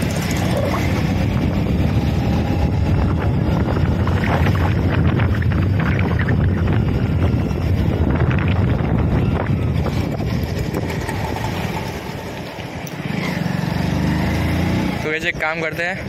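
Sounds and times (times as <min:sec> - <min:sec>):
wind buffeting microphone: 0:00.0 - 0:13.5
motorcycle engine: 0:00.0 - 0:15.2.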